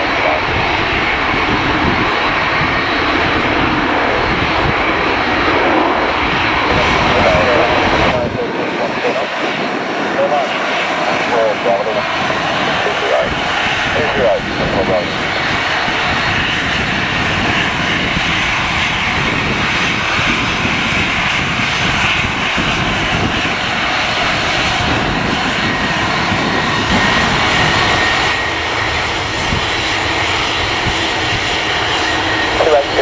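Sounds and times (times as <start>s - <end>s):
gusty wind: 0.0s - 33.0s
jet engines running: 0.0s - 33.0s.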